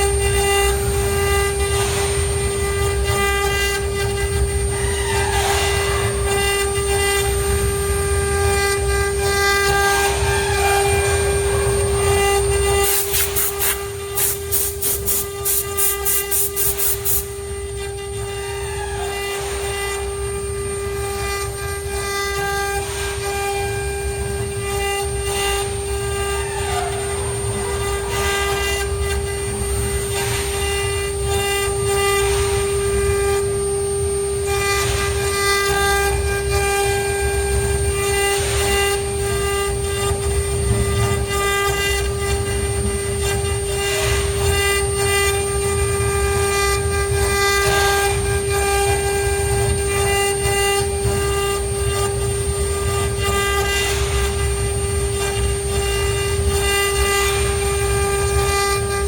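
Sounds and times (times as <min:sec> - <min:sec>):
axis motors changing pitch: 0:00.0 - 0:56.6
router spindle whine: 0:00.0 - 0:59.0.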